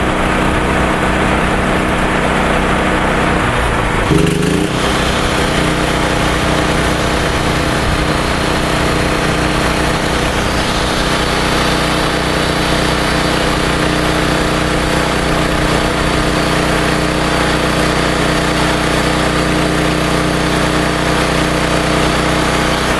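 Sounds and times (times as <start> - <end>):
electric chainsaw whining: 0.0 - 22.9.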